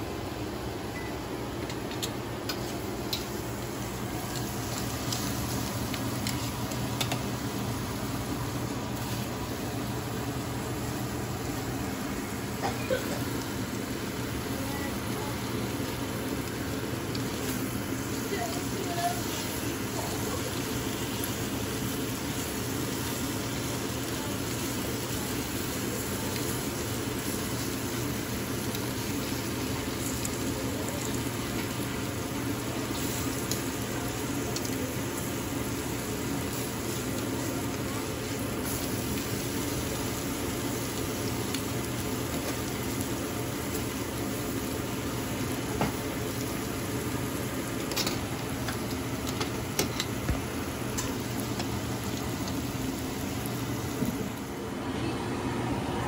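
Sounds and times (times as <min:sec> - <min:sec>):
steak sizzling in a pan: 0:02.4 - 0:54.4.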